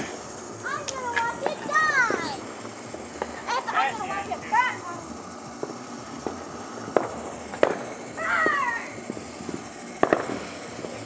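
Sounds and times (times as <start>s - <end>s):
firecracker bangs: 0.0s - 3.7s, 5.5s - 11.0s.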